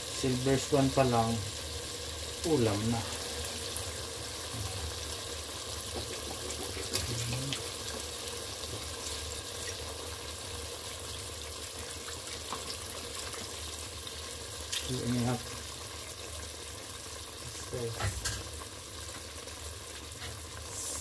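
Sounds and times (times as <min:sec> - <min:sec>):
chicken sizzling in pot: 0:00.0 - 0:21.0.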